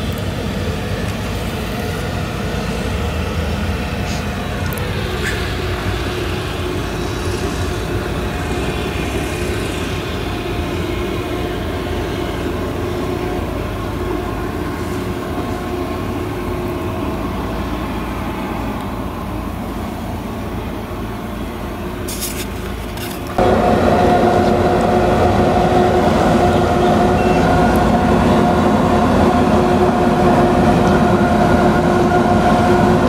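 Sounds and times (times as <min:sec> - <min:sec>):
harvester engine droning: 0:00.0 - 0:33.0.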